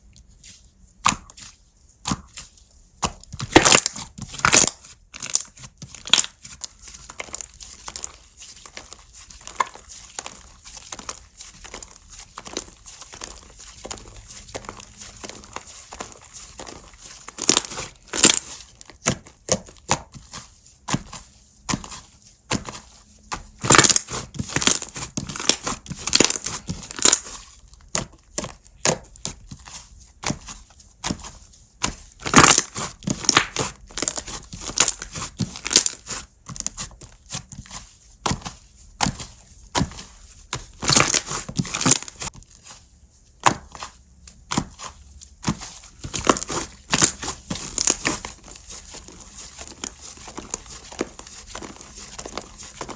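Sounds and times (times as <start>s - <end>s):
slime squishing and crackling: 0.0s - 52.9s.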